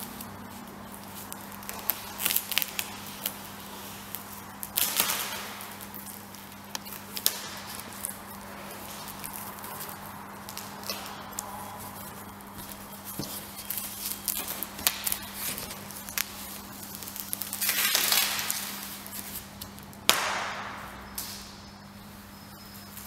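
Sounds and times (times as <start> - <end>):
plastic sheeting crinkling: 0.0 - 23.0
steady low hum: 0.0 - 23.0.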